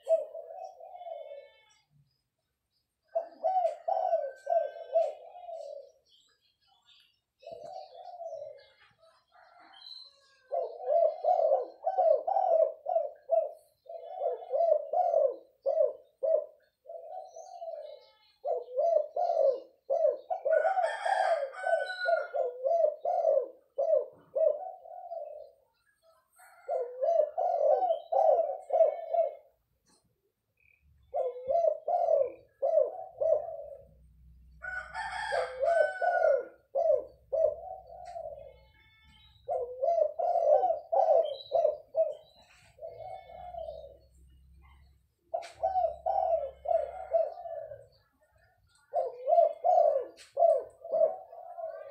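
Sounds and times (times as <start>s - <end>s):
dove cooing: 0.0s - 1.7s, 3.0s - 6.2s, 7.4s - 51.9s.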